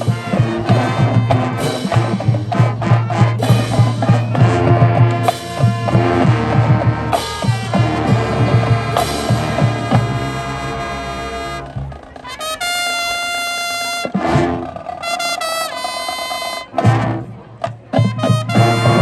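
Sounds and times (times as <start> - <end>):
drums: 0.0 - 19.0
held brass notes: 0.0 - 19.0
marching band playing: 0.0 - 19.0.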